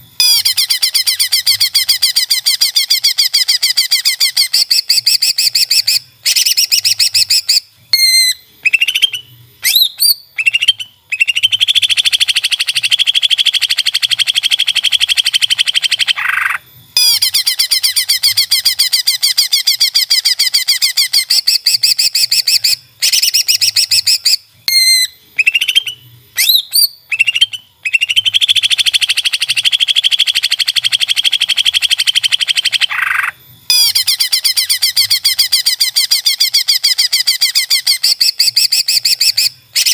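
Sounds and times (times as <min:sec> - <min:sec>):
bird singing trills and whistles: 0:00.2 - 0:39.9.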